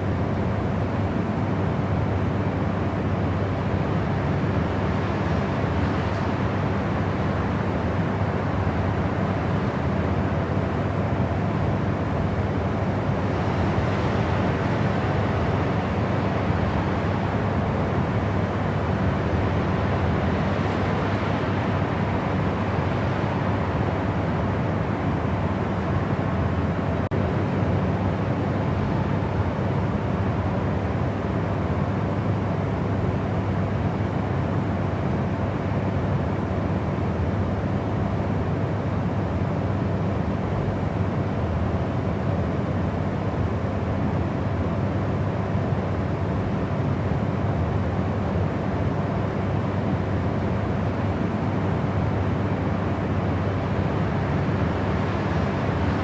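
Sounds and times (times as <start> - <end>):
white noise: 0.0 - 56.0.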